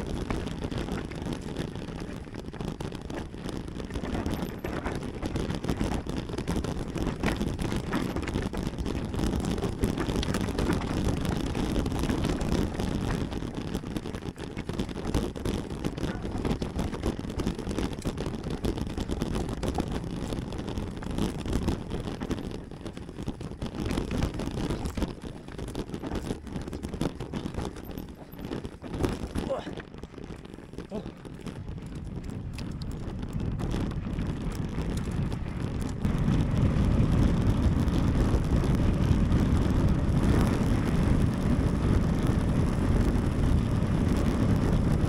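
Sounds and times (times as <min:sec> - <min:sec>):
mountain bike rolling downhill: 0:00.0 - 0:45.0
wind on microphone: 0:00.0 - 0:45.0.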